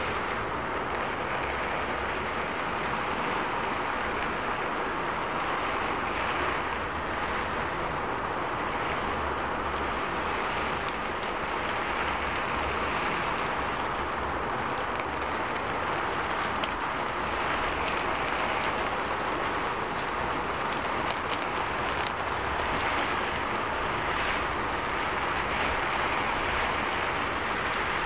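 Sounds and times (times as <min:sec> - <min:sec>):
heavy rain on street: 0:00.0 - 0:28.0
low traffic rumble: 0:00.0 - 0:28.0.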